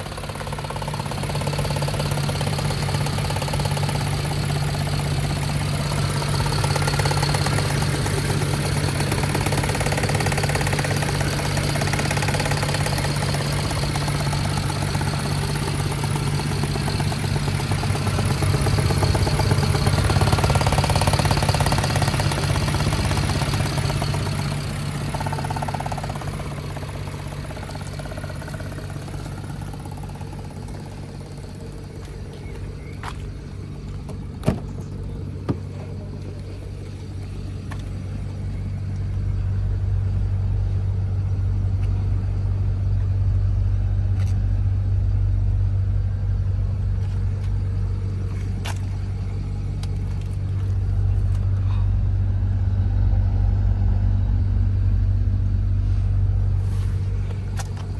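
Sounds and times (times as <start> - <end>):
car engine misfiring hum: 0.0 - 57.9.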